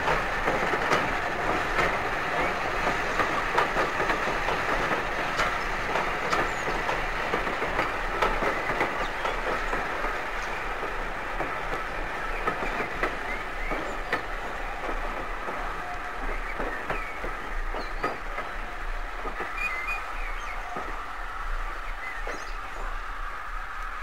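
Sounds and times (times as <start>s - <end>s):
train wheels clicking over rail joints: 0.0s - 23.0s.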